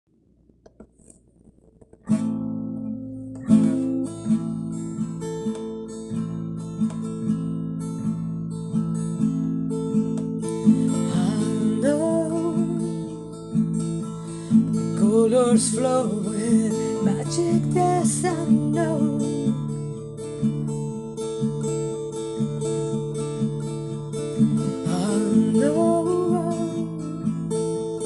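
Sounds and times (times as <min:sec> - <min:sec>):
acoustic guitar strumming: 0:02.0 - 0:28.0.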